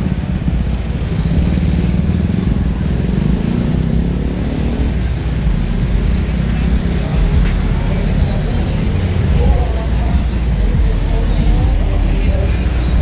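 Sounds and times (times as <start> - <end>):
motorbike engines passing: 0.0 - 13.0
road traffic: 0.0 - 13.0.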